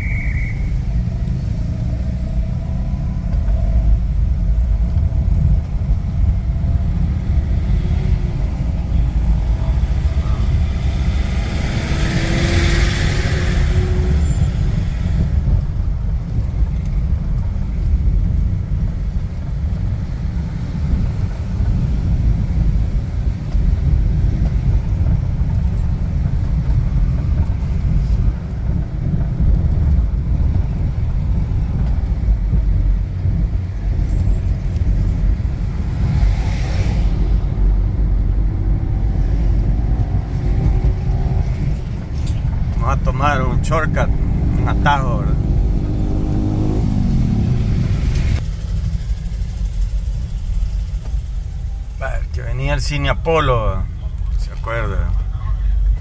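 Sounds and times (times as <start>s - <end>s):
wind buffeting microphone: 0.0s - 52.8s.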